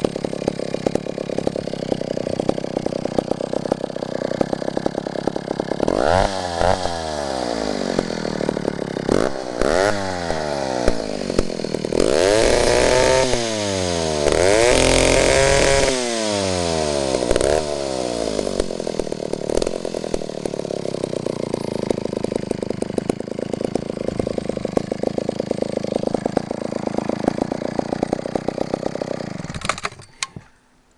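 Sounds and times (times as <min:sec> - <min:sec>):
chainsaw engine revving and idling: 0:00.0 - 0:30.3.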